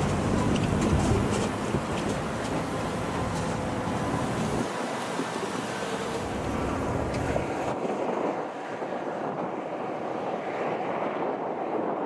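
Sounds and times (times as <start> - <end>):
freight train rolling past: 0.0 - 10.3
wind on microphone: 0.0 - 12.0.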